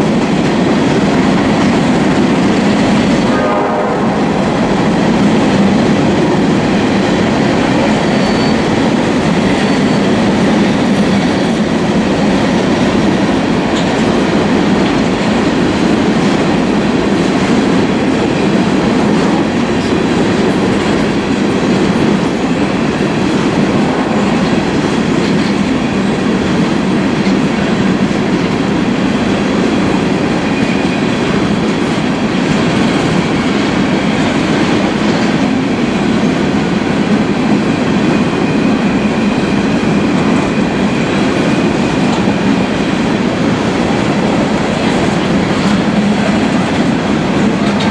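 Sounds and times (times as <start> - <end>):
train wheels on rails: 0.0 - 47.9.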